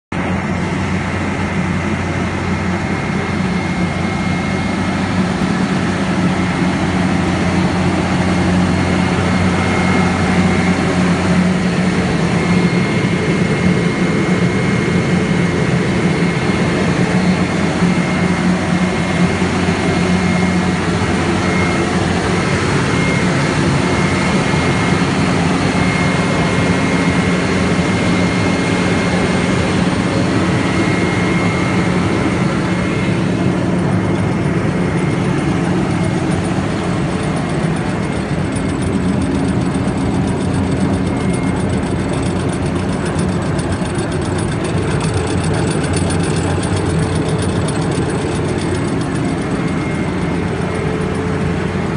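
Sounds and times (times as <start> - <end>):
diesel engine idling: 0.2 - 51.9.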